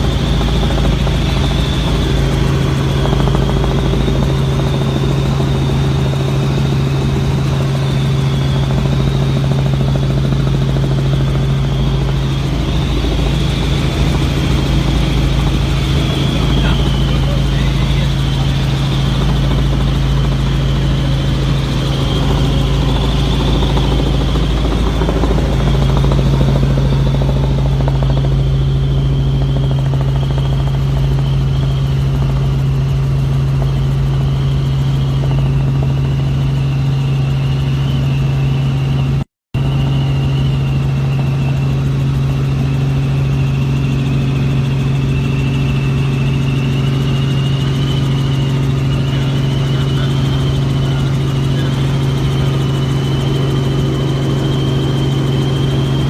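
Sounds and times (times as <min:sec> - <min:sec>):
helicopter engine and rotor drone: 0:00.0 - 0:56.0
high whine: 0:00.0 - 0:56.0.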